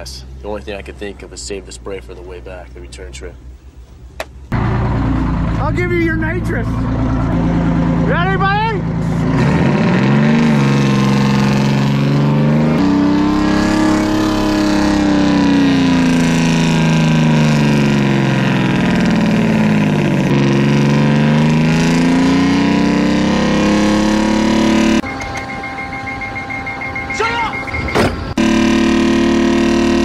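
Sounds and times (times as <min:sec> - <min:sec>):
diesel engine revving: 0:04.5 - 0:30.0.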